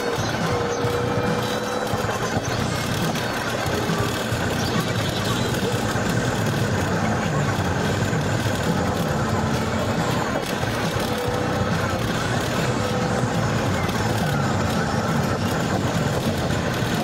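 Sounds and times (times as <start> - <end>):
car driving fast on highway: 0.0 - 17.0.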